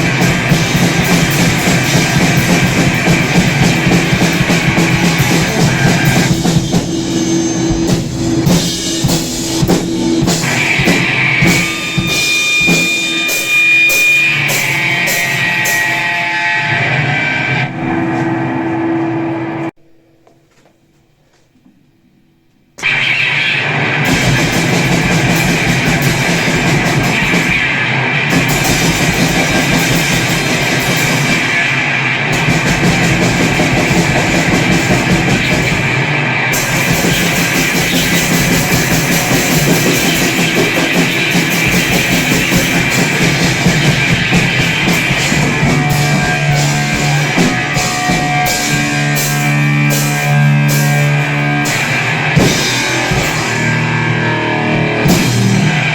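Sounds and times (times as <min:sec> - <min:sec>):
drum kit: 0:00.0 - 0:18.5, 0:22.8 - 0:55.9
distorted electric guitar: 0:00.0 - 0:19.7, 0:22.8 - 0:55.9.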